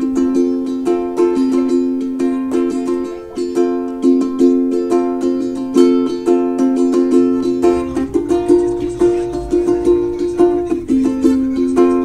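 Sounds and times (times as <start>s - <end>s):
strummed plucked strings: 0.0s - 12.0s.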